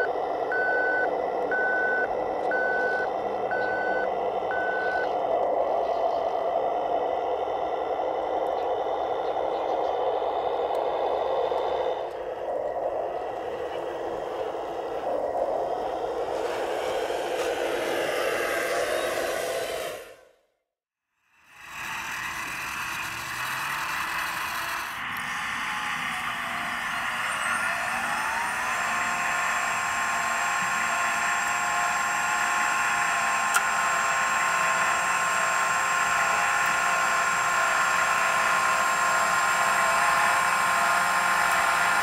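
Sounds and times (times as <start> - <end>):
toy sweeper motor whirring: 5.9 - 20.3, 21.4 - 42.0.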